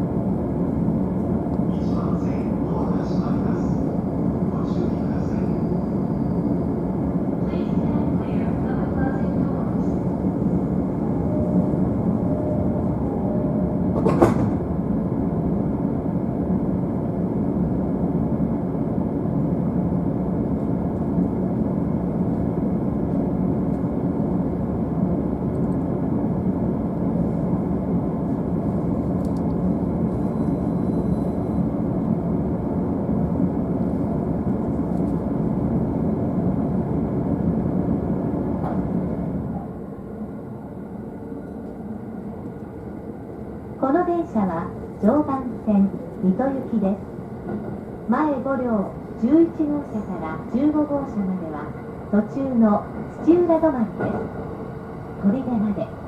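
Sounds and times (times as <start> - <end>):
train interior rumble: 0.0 - 56.0.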